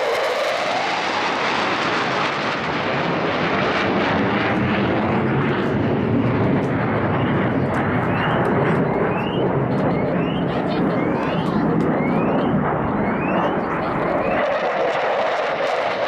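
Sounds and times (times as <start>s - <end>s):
jet flying overhead: 0.0s - 16.0s.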